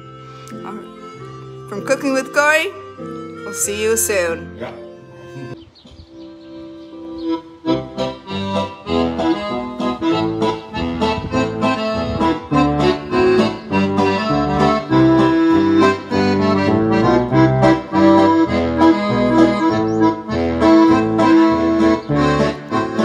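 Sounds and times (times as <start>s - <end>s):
accordion playing a tune: 0.0s - 23.0s.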